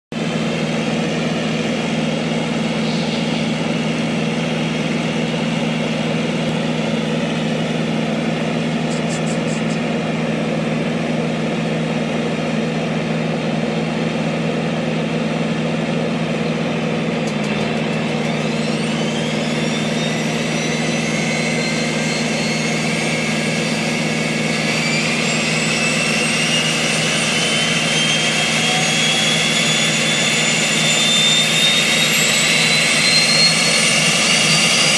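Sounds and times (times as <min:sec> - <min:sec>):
turboprop engines humming: 0:00.1 - 0:34.9
high turbine whine: 0:00.2 - 0:34.9.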